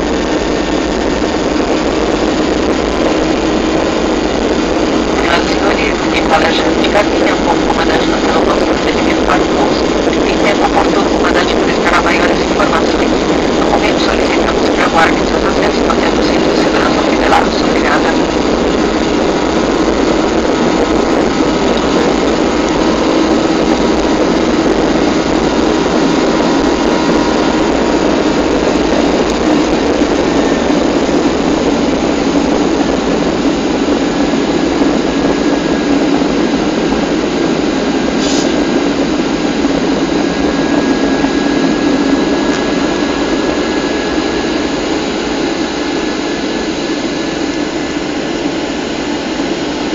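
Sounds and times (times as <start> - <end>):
jet engines roaring in flight: 0.0 - 49.9.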